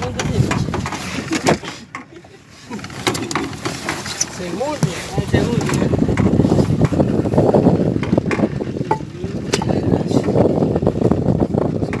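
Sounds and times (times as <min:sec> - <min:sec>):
wind buffeting microphone: 0:00.0 - 0:01.7, 0:02.7 - 0:12.0.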